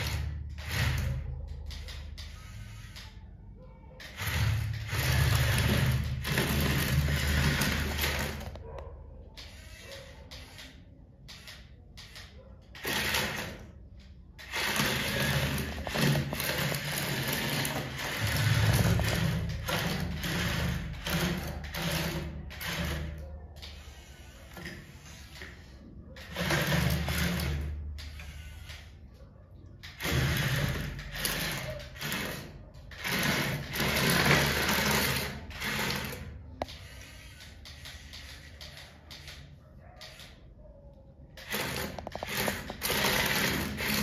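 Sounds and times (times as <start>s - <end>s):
toy motor and gears whirring: 0.0s - 44.0s.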